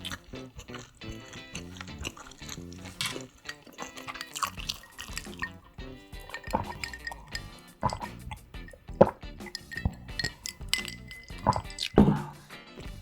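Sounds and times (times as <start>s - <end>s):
light background music: 0.0s - 13.0s
wet juicy eating sounds: 0.0s - 13.0s.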